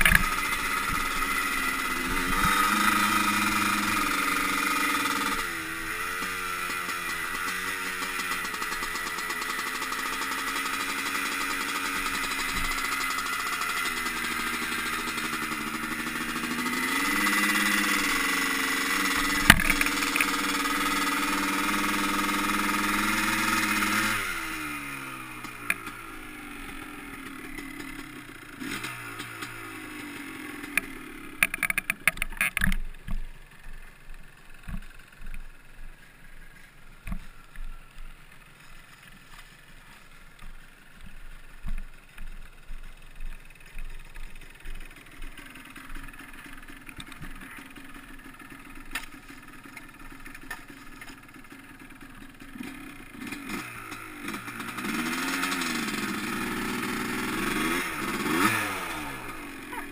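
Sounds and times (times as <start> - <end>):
atv engine running hard: 0.0 - 59.9.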